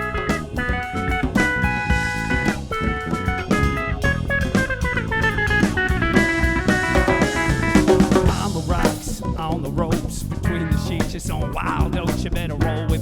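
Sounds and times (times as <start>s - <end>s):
bass: 0.0s - 13.0s
drum kit: 0.0s - 13.0s
fast plucked guitar notes: 0.0s - 13.0s.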